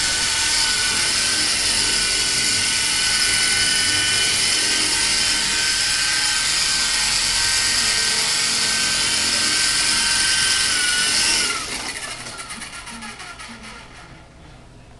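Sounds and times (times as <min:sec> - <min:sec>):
rc helicopter motor whine: 0:00.0 - 0:14.1.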